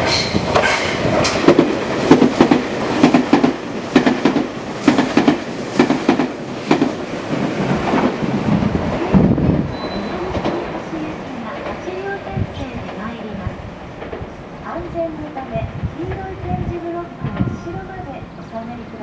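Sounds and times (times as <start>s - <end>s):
train cars rumbling: 0.0s - 19.0s.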